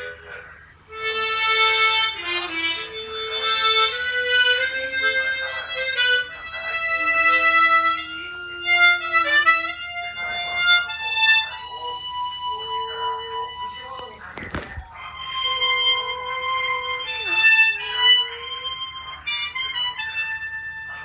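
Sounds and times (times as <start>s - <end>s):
harmonica playing slow melody: 0.0s - 14.3s, 14.9s - 21.0s.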